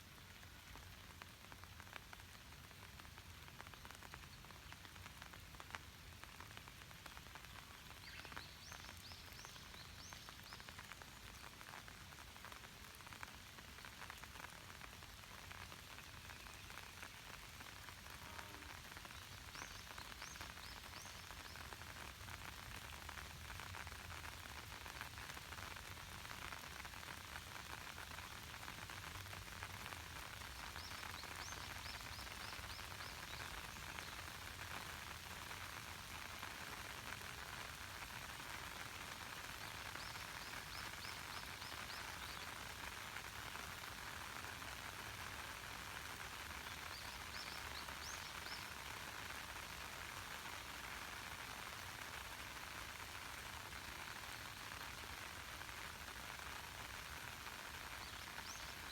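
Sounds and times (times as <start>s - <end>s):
light rain falling on water: 0.0s - 58.9s.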